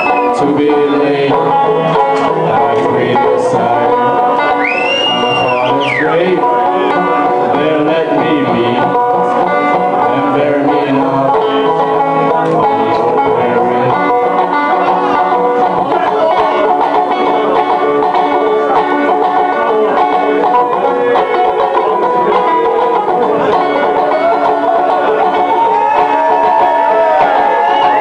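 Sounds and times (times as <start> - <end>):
banjos playing: 0.0 - 28.0.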